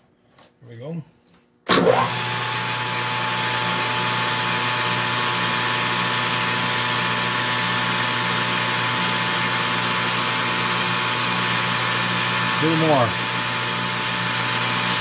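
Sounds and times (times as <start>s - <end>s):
metal lathe motor humming: 2.0s - 15.0s.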